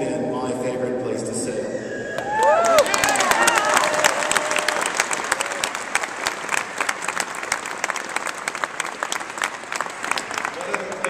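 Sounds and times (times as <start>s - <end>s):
crowd applauding: 2.1s - 11.0s.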